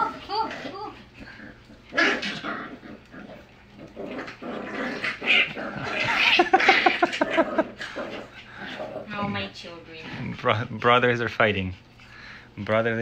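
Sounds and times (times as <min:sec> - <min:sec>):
puppies growling and yapping: 0:00.0 - 0:10.4.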